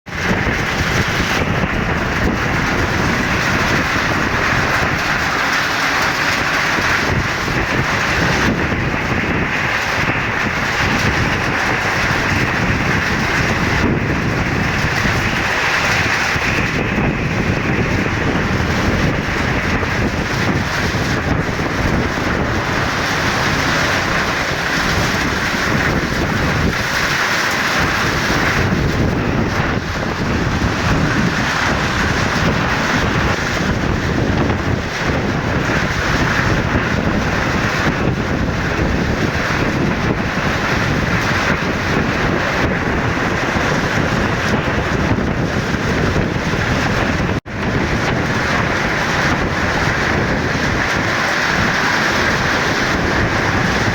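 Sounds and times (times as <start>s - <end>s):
wind buffeting microphone: 0.0s - 53.9s
steady rain falling: 0.1s - 53.9s.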